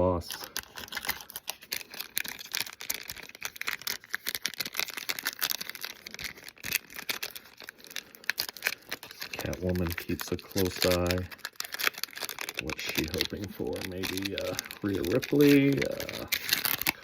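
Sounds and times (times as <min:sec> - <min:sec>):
trading cards clicking and rustling: 0:00.0 - 0:17.0.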